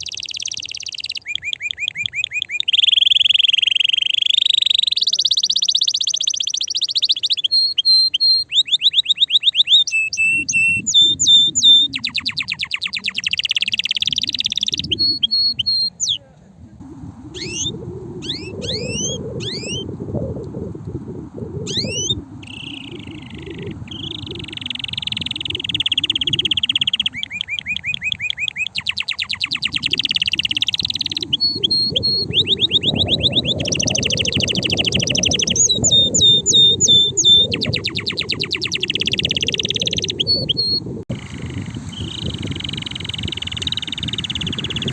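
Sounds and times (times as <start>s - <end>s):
canary singing trills: 0.0s - 16.2s, 17.3s - 19.9s, 21.6s - 44.9s.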